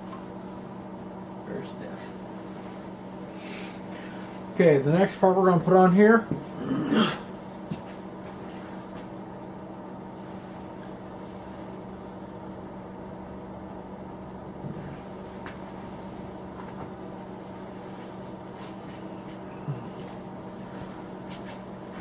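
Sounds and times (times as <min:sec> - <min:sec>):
heater humming: 0:00.0 - 0:22.0.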